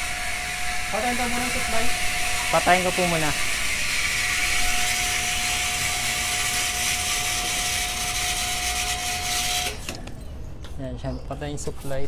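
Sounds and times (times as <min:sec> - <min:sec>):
water pump motor humming: 0:00.0 - 0:10.0.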